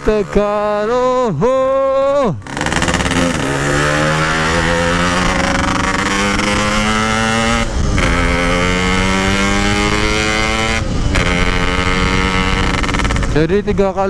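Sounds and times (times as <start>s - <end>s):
motorcycle accelerating through gears: 2.4s - 13.7s.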